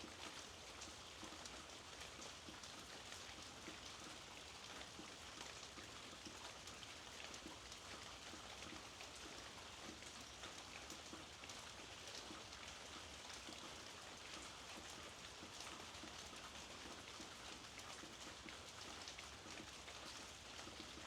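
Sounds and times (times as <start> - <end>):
soft rain pattering: 0.0 - 21.0.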